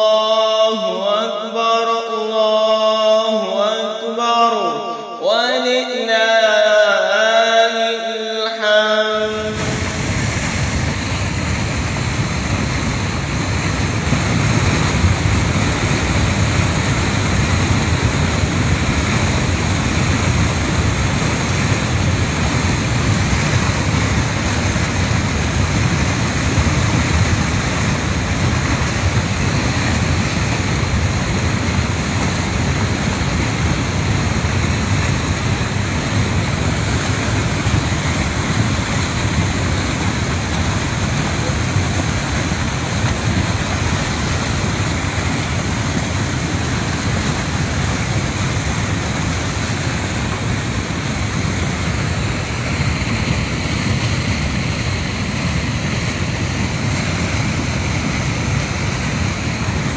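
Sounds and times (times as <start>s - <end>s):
flood water rushing over rocks: 8.6s - 59.9s.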